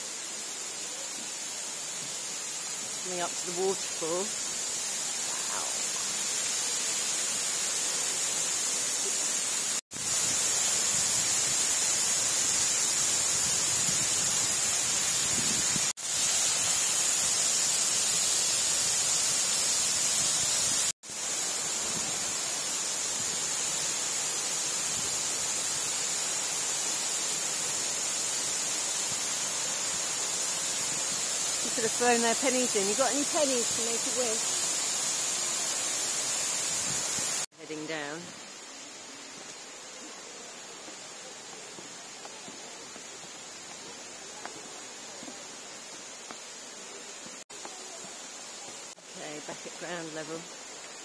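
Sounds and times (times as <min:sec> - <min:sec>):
waterfall rushing over rocks: 0:00.0 - 0:51.0.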